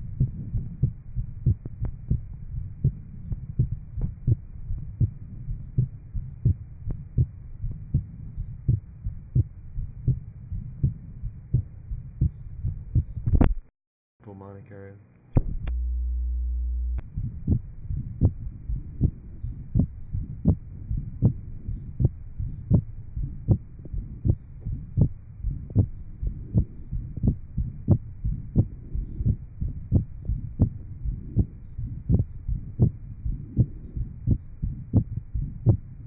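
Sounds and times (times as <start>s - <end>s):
heartbeat low thumps: 0.0s - 13.7s, 15.4s - 36.0s
steady low hum: 0.0s - 36.0s.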